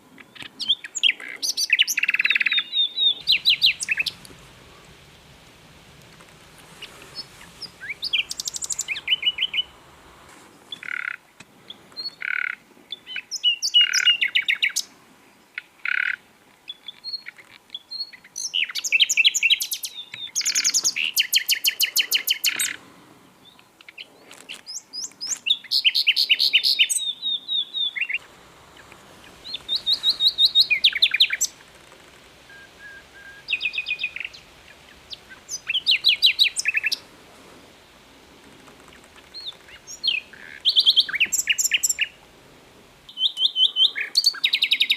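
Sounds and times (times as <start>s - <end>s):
nightingale singing: 0.0s - 14.9s, 15.5s - 22.8s, 23.4s - 42.4s, 43.0s - 44.9s.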